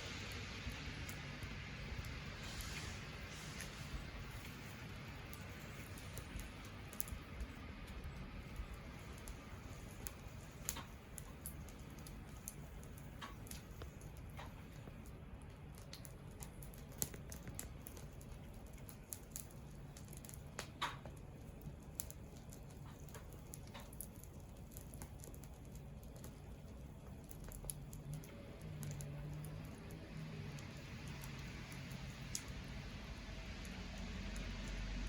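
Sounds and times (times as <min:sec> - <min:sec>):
campfire crackling and popping: 0:00.0 - 0:35.0
low steady hiss: 0:00.0 - 0:35.0.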